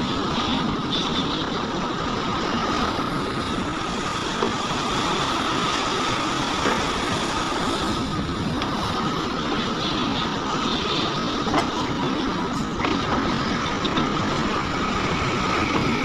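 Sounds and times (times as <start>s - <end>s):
heavy machinery diesel engines: 0.0s - 16.0s.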